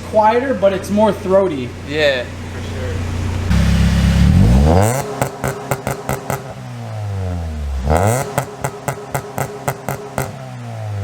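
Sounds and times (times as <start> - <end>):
car engine revving: 0.0 - 11.0
exhaust crackles: 0.0 - 11.0.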